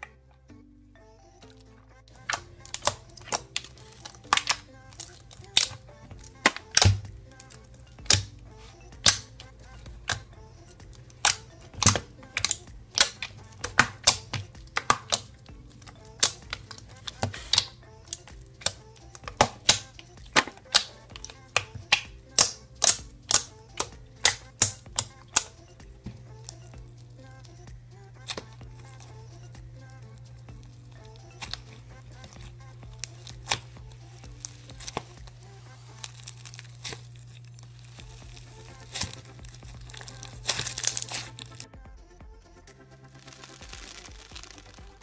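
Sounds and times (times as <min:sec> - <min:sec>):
slime popping and snapping: 0:02.2 - 0:29.3, 0:30.2 - 0:41.7, 0:43.2 - 0:45.0.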